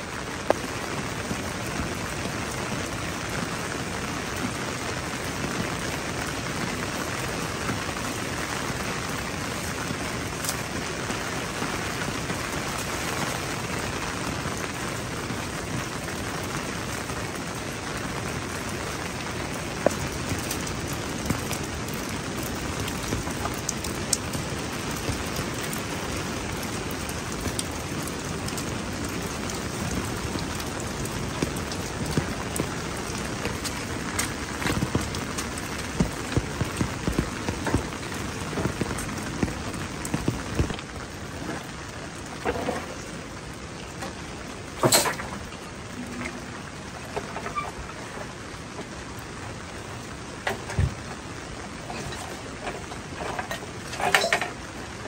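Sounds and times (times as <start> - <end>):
drops and drips striking: 0.0 - 49.3, 50.0 - 55.0
heavy rain falling: 0.0 - 55.0.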